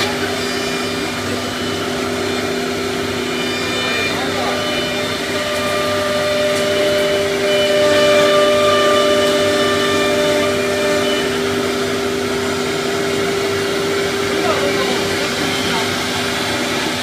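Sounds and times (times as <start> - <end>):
dust extraction hissing: 0.0 - 17.0
router spindle whining: 0.0 - 17.0.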